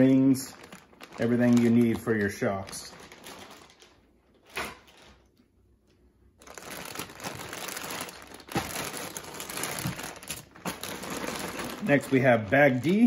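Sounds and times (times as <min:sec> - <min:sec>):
plastic bags crinkling: 0:00.0 - 0:05.3, 0:06.4 - 0:13.0.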